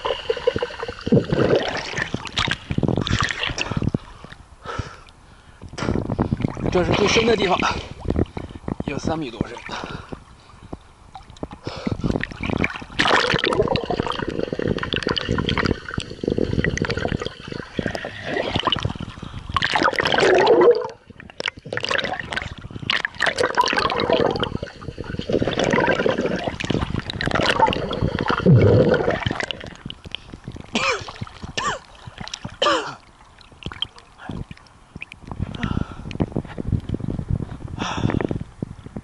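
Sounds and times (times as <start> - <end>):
pool water splashing and gurgling: 0.0 - 4.4, 5.8 - 35.5.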